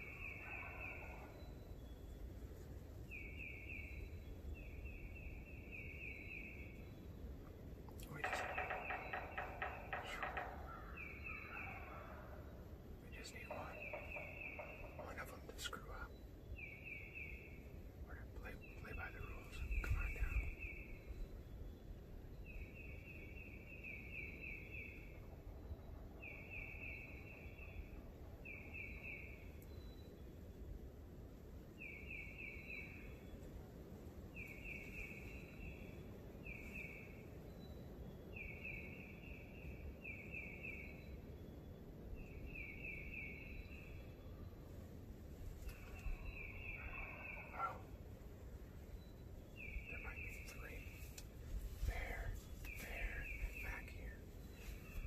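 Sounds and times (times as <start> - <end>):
faint woodland background noise: 0.0 - 55.0.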